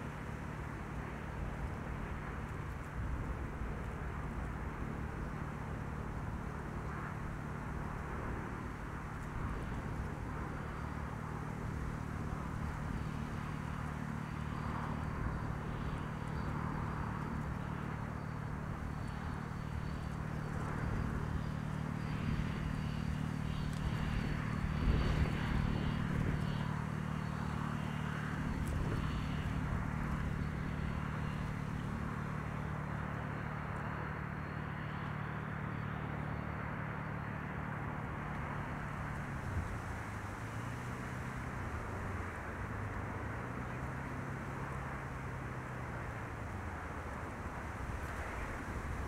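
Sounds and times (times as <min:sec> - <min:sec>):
low engine drone: 0:00.0 - 0:49.0.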